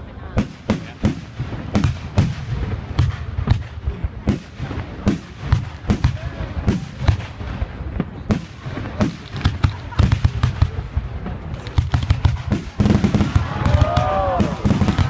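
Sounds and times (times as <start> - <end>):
firework bangs and cracks: 0.3 - 15.0
distant firework rumble: 0.4 - 15.0.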